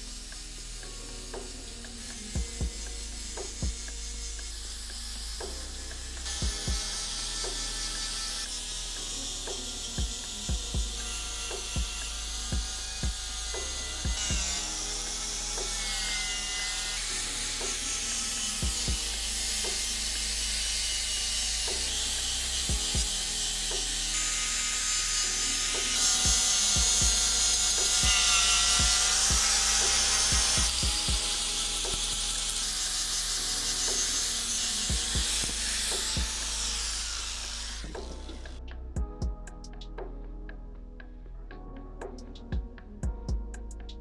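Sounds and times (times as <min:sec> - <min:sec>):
angle grinder grinding metal: 0:00.0 - 0:38.6.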